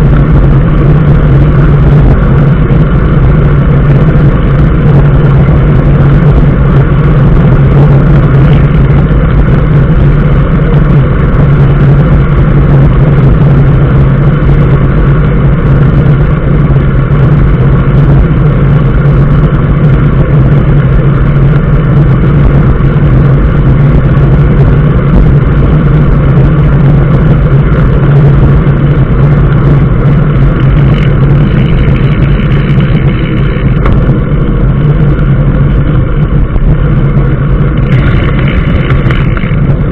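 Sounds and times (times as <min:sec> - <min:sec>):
engine drone: 0:00.0 - 0:39.9
road noise: 0:00.0 - 0:39.9.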